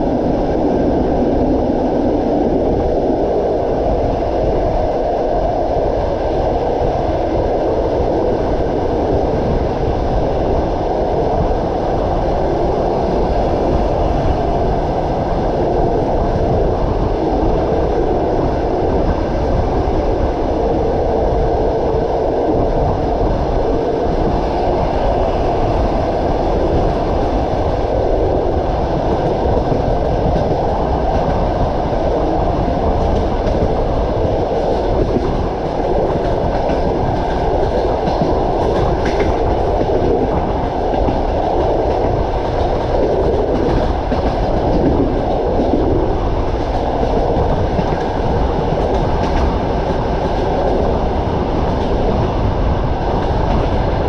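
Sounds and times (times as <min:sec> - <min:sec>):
train wheels clattering on rails: 0:06.1 - 0:54.0.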